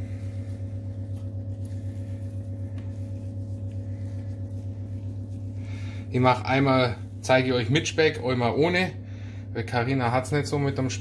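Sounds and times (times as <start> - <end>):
electric hob humming: 0.0 - 11.0.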